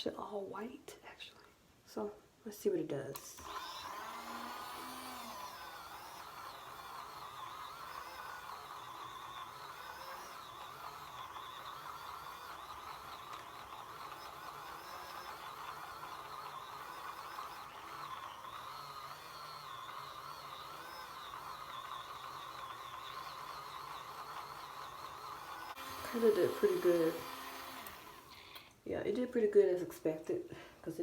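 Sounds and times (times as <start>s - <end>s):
small electric motor whirring: 3.2s - 28.8s.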